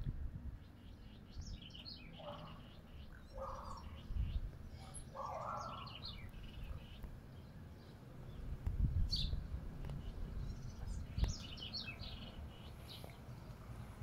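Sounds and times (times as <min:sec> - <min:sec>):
small birds chirping: 0:00.5 - 0:14.0.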